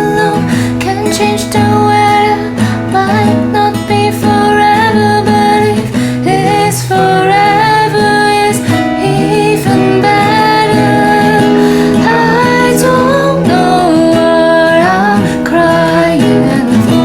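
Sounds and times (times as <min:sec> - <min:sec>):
strummed acoustic guitar: 0:00.0 - 0:17.0
woman singing: 0:00.0 - 0:17.0.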